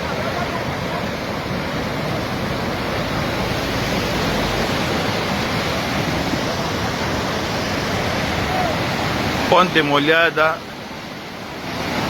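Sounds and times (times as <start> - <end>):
floodwater roaring: 0.0 - 12.0.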